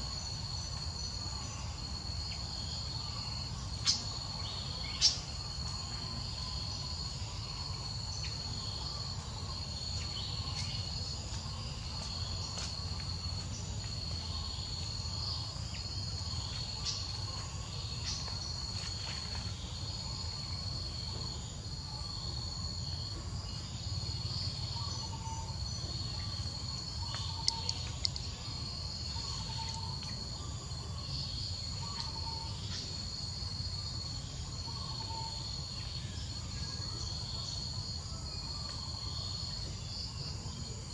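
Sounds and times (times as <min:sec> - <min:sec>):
insects chirping trill: 0:00.0 - 0:40.9.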